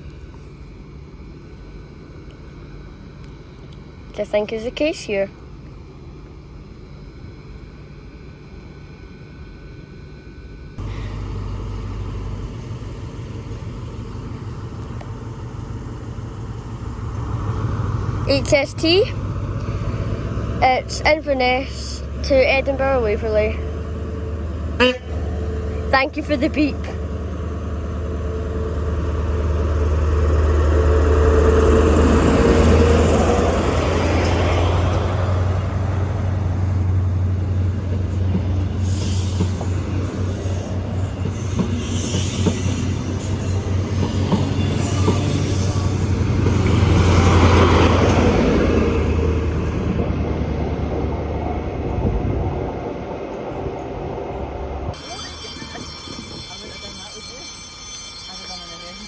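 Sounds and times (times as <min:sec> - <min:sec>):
diesel train engines droning: 0:00.0 - 0:59.0.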